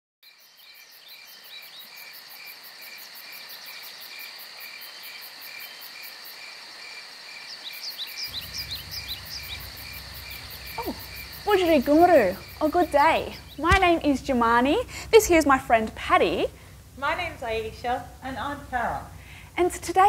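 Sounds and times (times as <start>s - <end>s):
crickets and insects chirping: 0.2s - 20.0s.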